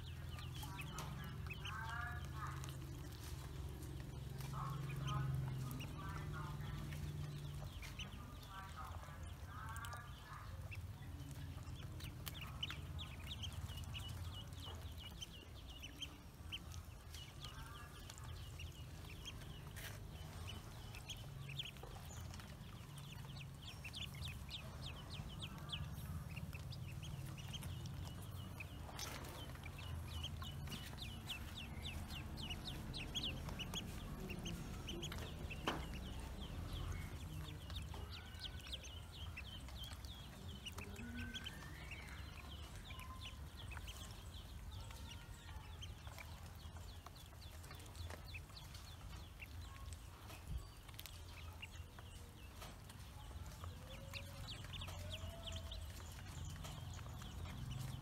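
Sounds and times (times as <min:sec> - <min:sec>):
ducklings peeping: 0:00.0 - 0:58.0
low background rumble: 0:00.0 - 0:58.0.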